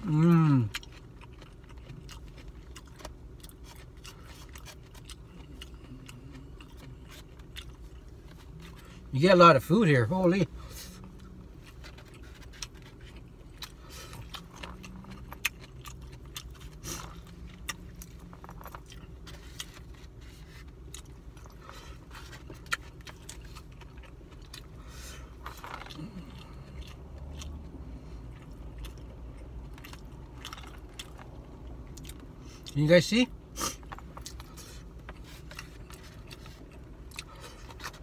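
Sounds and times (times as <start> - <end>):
low steady hum: 0.0 - 38.0
mouth chewing: 0.1 - 8.9, 11.0 - 32.8.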